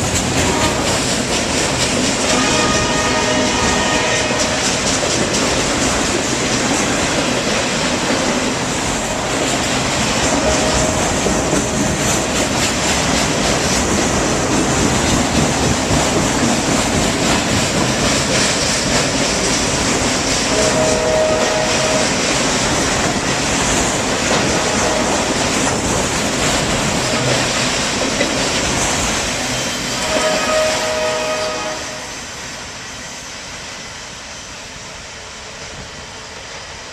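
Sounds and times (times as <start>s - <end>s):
train wheels clattering over rails: 0.0s - 31.1s.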